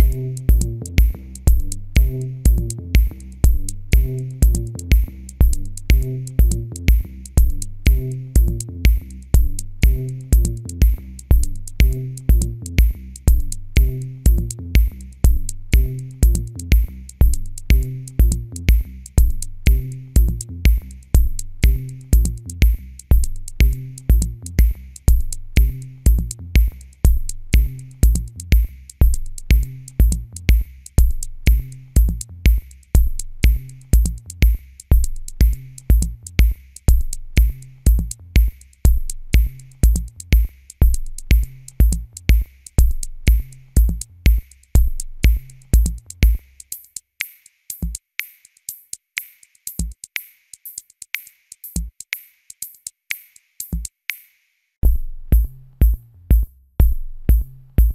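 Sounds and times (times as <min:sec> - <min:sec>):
electronic music with drum beat: 0:00.0 - 0:57.9.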